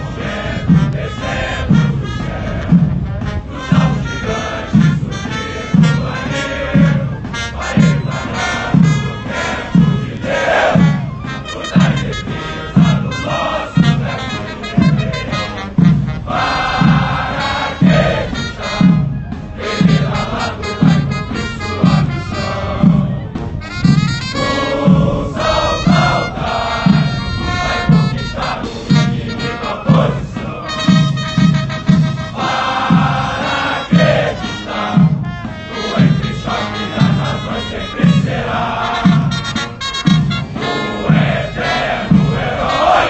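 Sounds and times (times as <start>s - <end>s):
men singing: 0.0s - 23.4s, 24.3s - 39.6s, 40.5s - 43.0s
bass drum beat: 0.0s - 43.0s
military band playing a march: 0.0s - 43.0s.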